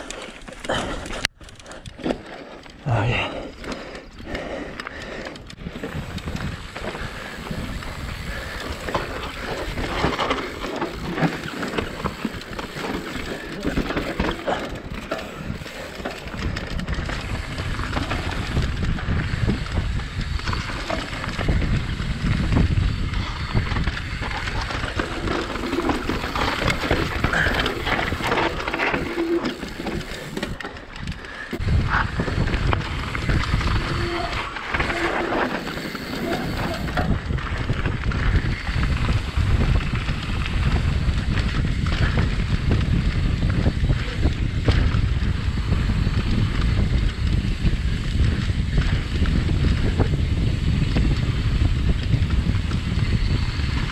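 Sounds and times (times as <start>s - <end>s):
bike clattering over bumps: 3.7s - 53.9s
wind buffeting microphone: 3.8s - 53.9s
tyres rolling and skidding on dirt: 5.3s - 53.9s.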